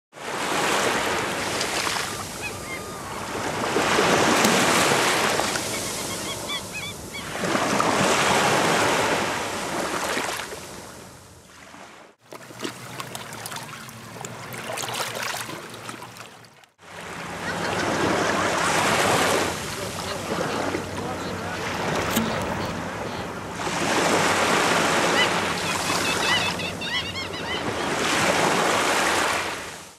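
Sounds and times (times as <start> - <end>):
waves washing on shore: 0.2 - 26.6.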